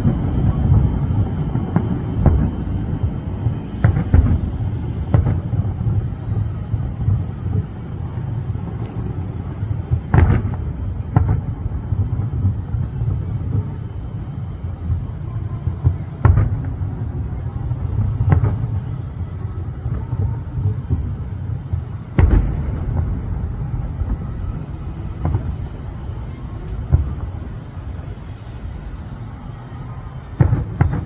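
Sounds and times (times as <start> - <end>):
fireworks booming: 0.0 - 31.0
low rumble: 0.0 - 31.0.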